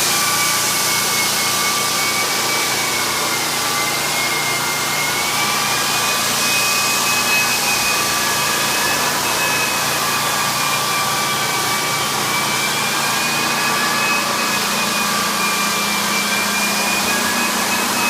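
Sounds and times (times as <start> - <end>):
floor sander running: 0.0 - 18.0.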